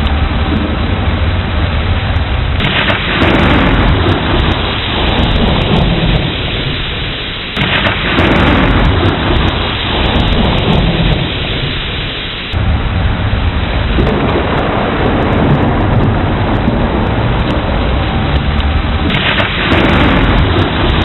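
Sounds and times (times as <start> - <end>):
heavy rain: 0.0 - 21.0
thunder rumbling: 0.0 - 21.0.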